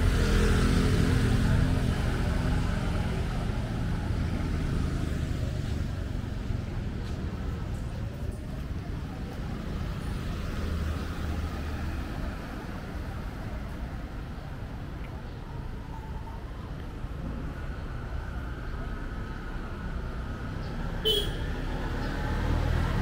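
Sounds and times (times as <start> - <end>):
road traffic engine rumble: 0.0 - 23.0.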